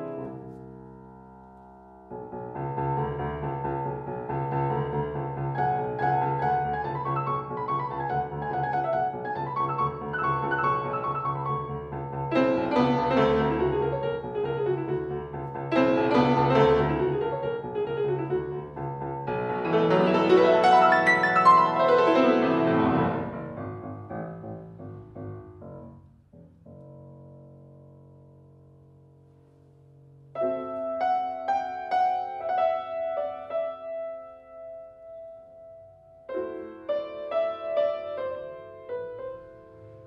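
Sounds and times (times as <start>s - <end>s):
solo piano classical piece: 0.0s - 40.0s.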